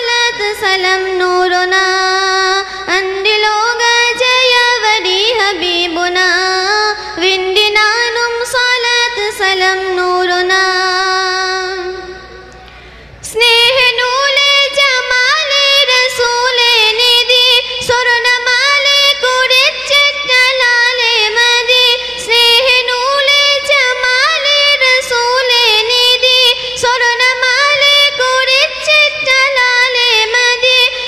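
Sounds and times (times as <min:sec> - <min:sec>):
girl singing unaccompanied: 0:00.0 - 0:12.5, 0:13.2 - 0:31.0.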